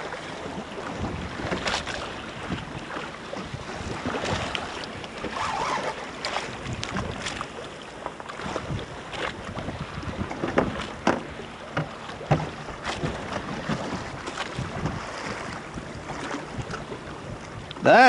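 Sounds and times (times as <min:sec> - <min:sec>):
water slapping against boat hull: 0:00.0 - 0:18.0
wind buffeting microphone: 0:00.4 - 0:07.5, 0:08.4 - 0:18.0.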